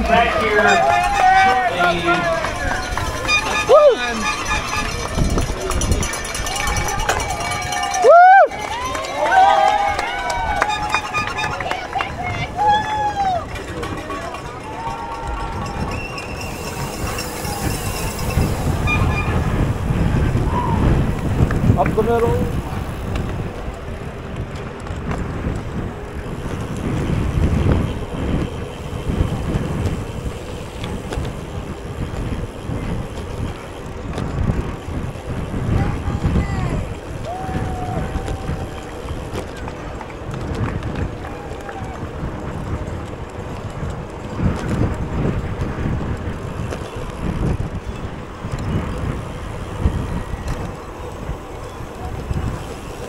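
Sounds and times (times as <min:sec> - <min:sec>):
bicycle tyre and road noise: 0:00.0 - 0:53.0
wind buffeting microphone: 0:00.0 - 0:53.0.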